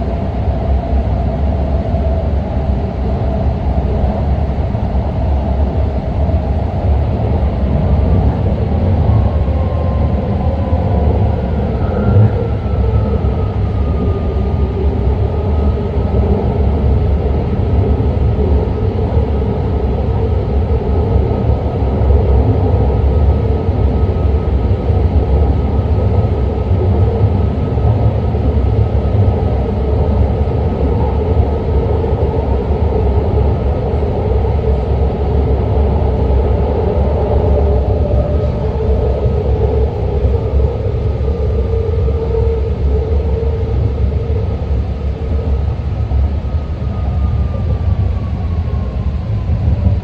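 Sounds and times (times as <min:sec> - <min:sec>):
high whine: 0:00.0 - 0:50.0
train wheels rumbling on track: 0:00.0 - 0:50.0.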